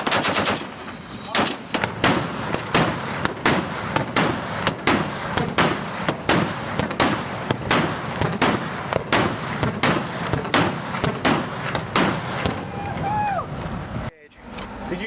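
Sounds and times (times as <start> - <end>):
faint gunshots: 0.0 - 12.8
gunshots echoing: 0.0 - 12.8.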